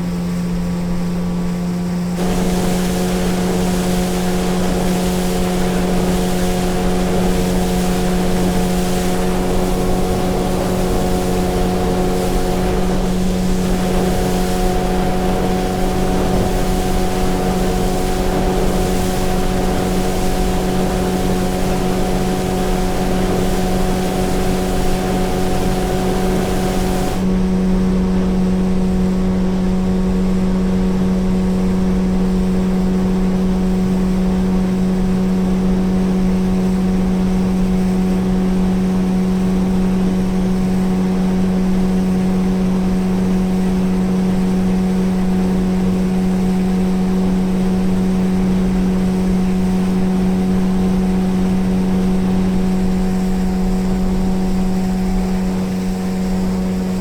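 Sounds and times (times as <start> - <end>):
motorboat engine humming: 0.0 - 57.0
water and wind hiss: 0.0 - 57.0.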